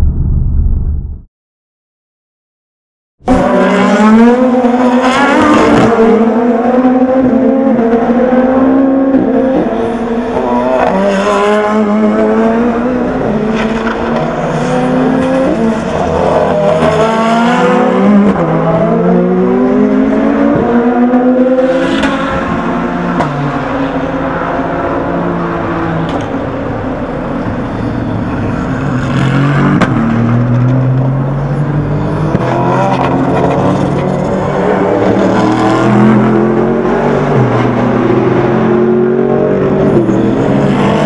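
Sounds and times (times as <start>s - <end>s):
race car engines: 3.2s - 41.0s.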